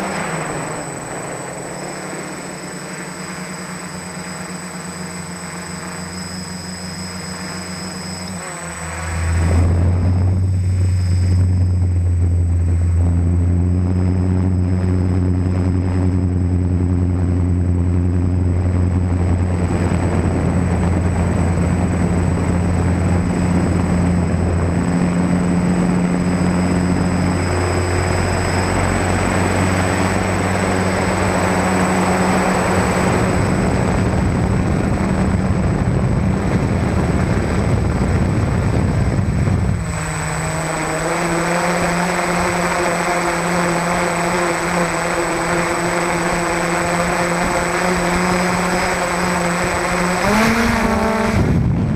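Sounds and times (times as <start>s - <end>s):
quadcopter motors droning: 0.0s - 51.9s
rushing wind: 0.0s - 51.9s.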